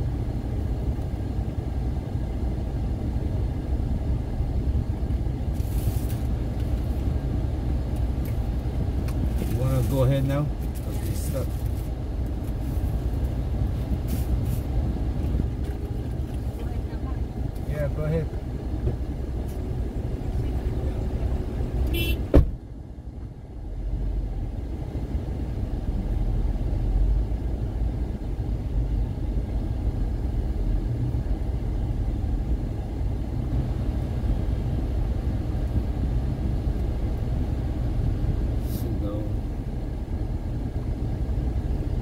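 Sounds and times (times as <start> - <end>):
car interior rumble: 0.0 - 42.0.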